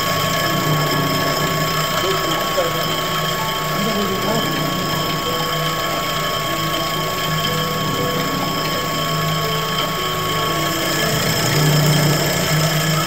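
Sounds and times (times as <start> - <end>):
meat chopper machine whirring: 0.0 - 13.0.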